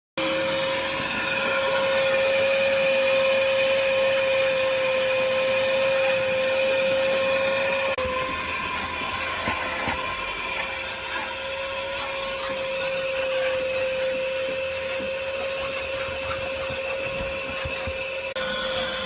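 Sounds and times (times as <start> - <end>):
car wash equipment whining: 0.2 - 19.0.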